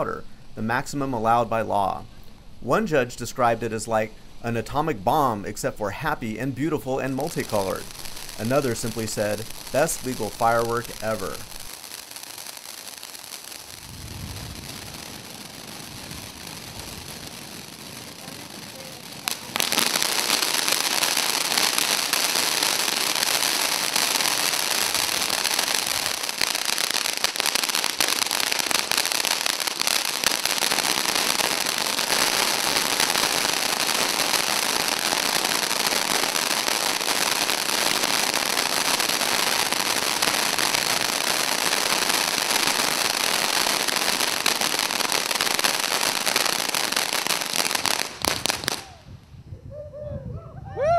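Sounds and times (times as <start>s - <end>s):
dense crackling sparks: 0.0s - 49.1s
firework fountain hissing: 0.0s - 49.1s.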